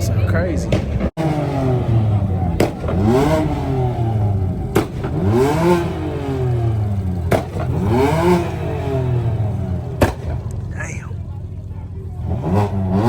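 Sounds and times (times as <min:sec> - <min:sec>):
car engine revving: 0:00.0 - 0:13.0
sharp crack: 0:00.7 - 0:13.0.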